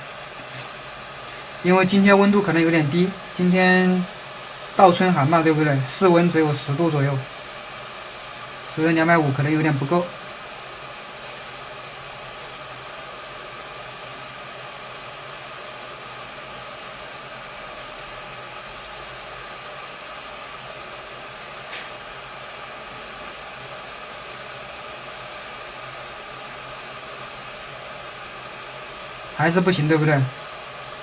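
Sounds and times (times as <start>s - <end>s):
hot air hissing: 0.0s - 31.0s.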